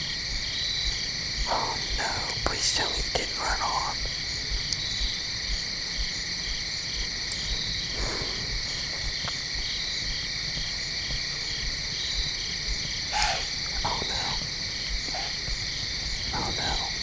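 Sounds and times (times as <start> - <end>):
insect chirping: 0.0 - 17.0
insect chorus shrill ringing: 0.0 - 17.0.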